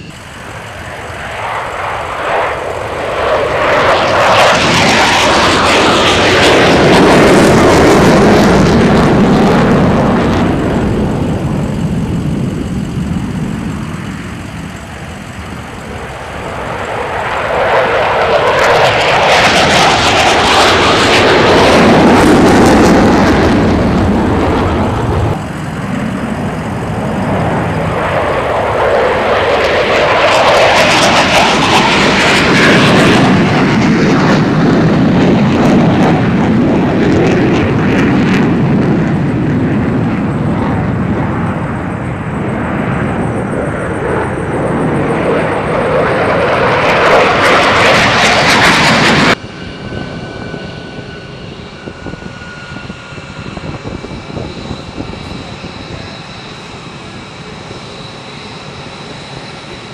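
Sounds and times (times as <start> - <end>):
fighter jets passing overhead: 0.0 - 59.9
steady jet engine hum: 0.0 - 59.9.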